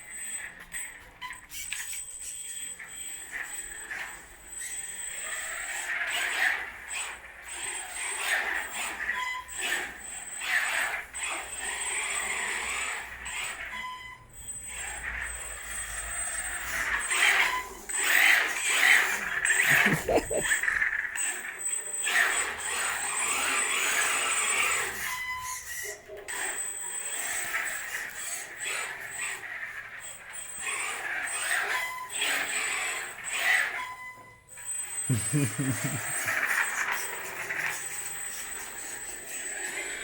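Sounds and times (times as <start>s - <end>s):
rc car motor whine: 0.0s - 40.0s.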